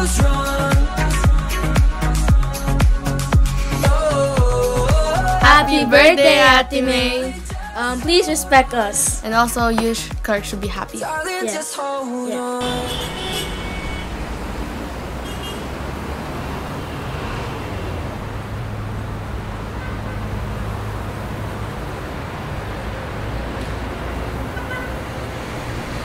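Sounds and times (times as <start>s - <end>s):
city traffic: 4.1s - 11.6s, 12.5s - 26.0s.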